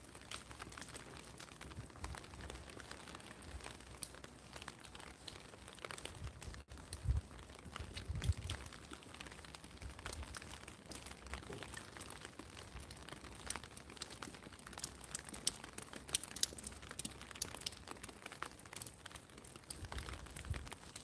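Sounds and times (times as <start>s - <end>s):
rain hissing on street: 0.0s - 21.0s
raindrops tapping on plastic umbrella: 0.0s - 21.0s.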